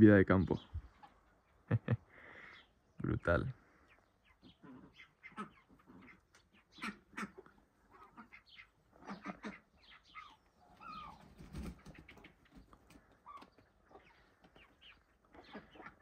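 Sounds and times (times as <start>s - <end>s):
poultry chirping and peeping: 0.1s - 16.0s.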